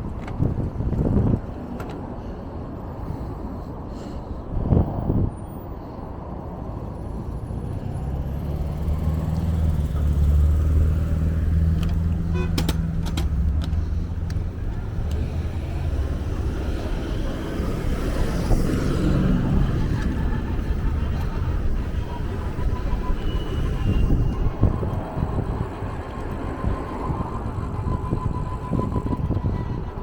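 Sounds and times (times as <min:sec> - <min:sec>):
motor vehicle engine drone: 0:04.5 - 0:30.0.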